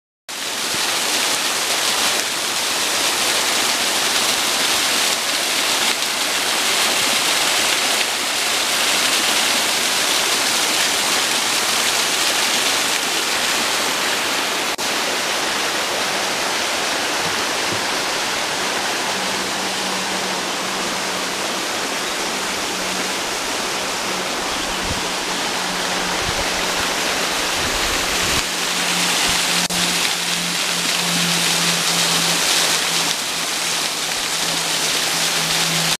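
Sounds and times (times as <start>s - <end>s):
water rushing over rocks: 0.3s - 35.9s.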